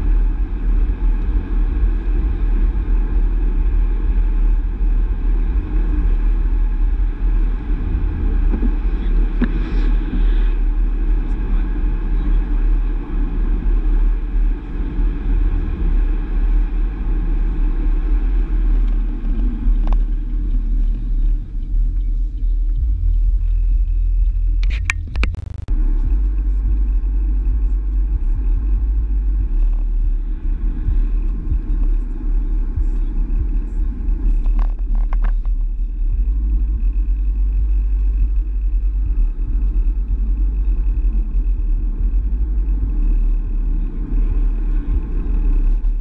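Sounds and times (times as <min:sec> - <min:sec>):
car engine and tyre rumble: 0:00.0 - 0:46.0.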